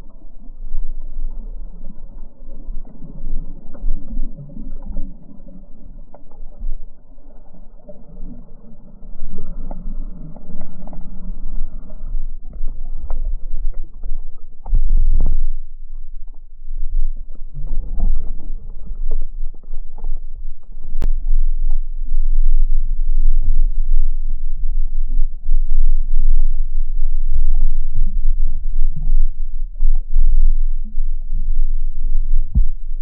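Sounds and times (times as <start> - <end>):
muffled underwater pool water swishing: 0.0 - 33.0.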